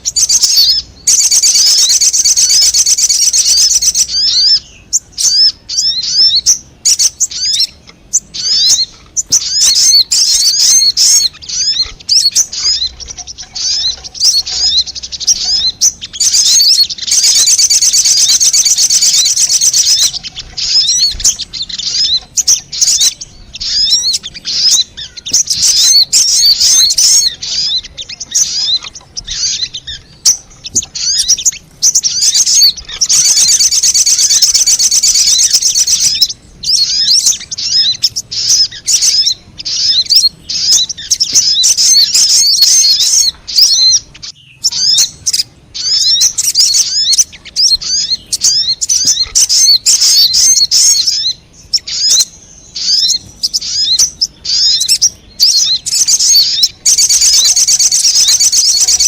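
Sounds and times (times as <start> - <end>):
bird chirping and twittering: 0.0 - 59.0
buzzing bird trills: 0.0 - 59.0.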